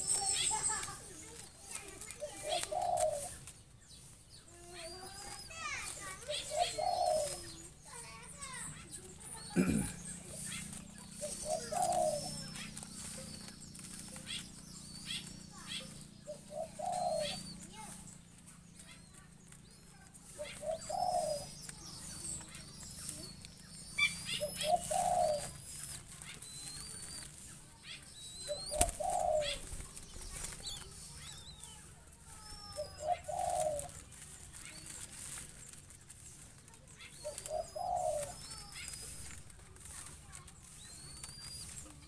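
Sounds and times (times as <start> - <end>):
dove cooing: 0.0 - 3.6, 4.4 - 42.0
faint high bird chirps: 0.0 - 42.0
wing flutters: 0.0 - 42.0.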